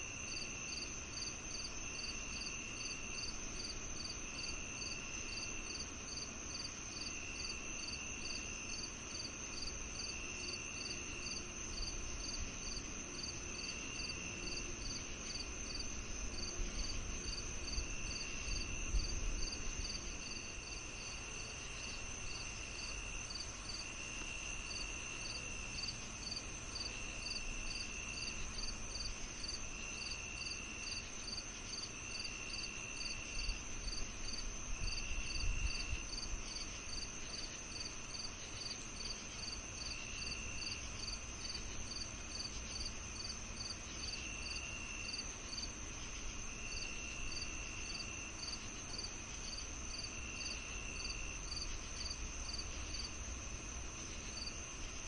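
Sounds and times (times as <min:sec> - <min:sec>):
lower insect trill: 0:00.0 - 0:55.0
high-pitched insect trill: 0:00.1 - 0:53.1
repeating cricket chirp: 0:00.1 - 0:55.0.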